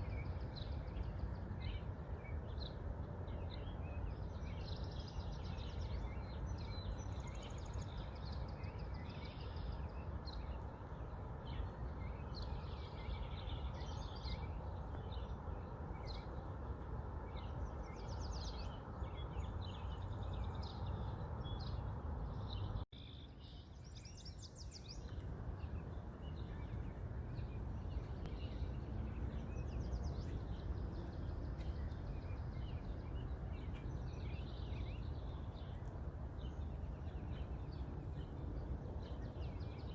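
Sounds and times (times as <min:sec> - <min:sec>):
small birds chirping and trilling: 0:00.0 - 0:39.9
steady low rumble: 0:00.0 - 0:39.9.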